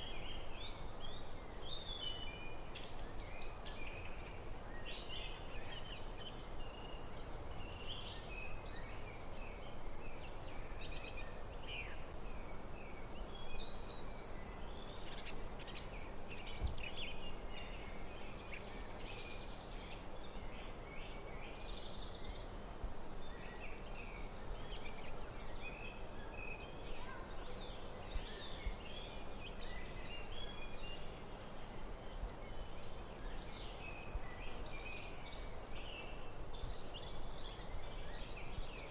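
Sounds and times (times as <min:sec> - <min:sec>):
low outdoor hiss: 0:00.0 - 0:38.9.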